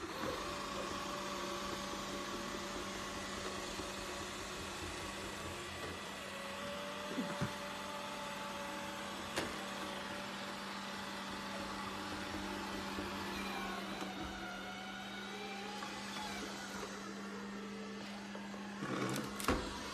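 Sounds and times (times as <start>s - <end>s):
robot vacuum cleaner humming: 0.0s - 19.9s.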